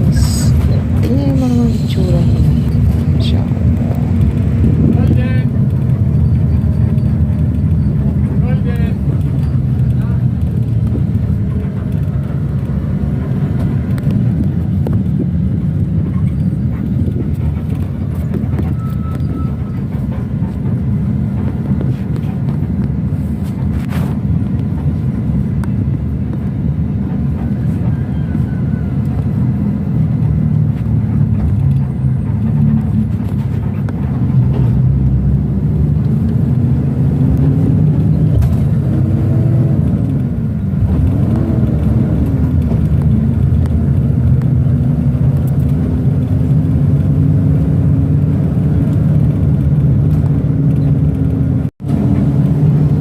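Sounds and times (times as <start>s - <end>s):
bus engine drone: 0.0s - 53.0s
road noise: 0.0s - 53.0s.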